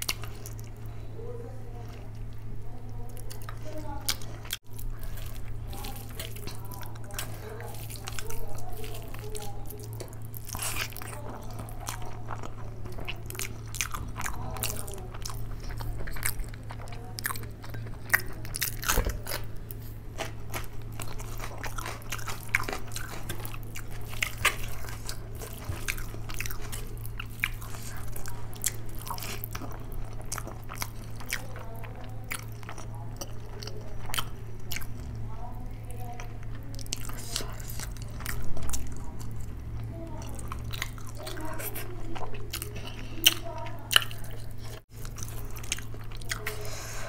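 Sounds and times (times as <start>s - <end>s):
low steady hum: 0.0s - 47.0s
person chewing food: 0.0s - 47.0s.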